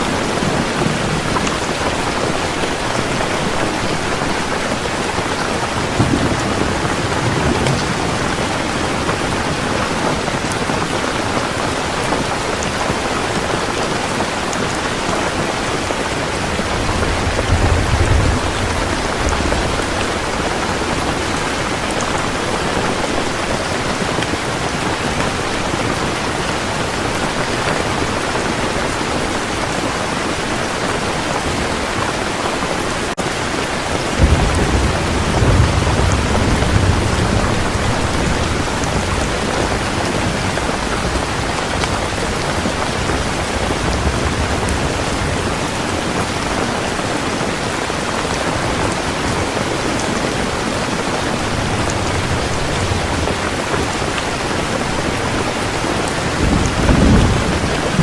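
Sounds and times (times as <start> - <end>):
thunder rumbling: 0.0 - 29.9, 33.5 - 58.0
heavy rain: 0.0 - 58.0.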